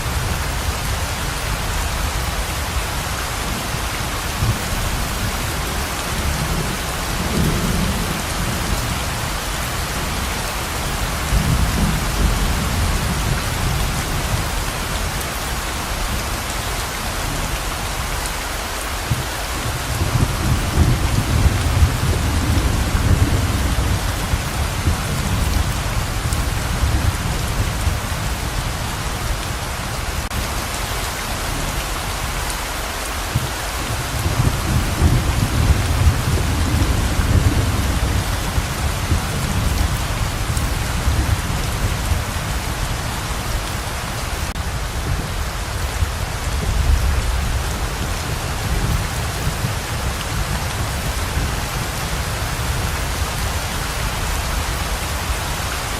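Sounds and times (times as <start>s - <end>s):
heavy rain pouring: 0.0s - 55.9s
thunder rumbling: 3.4s - 15.3s, 19.0s - 30.5s, 33.3s - 55.9s.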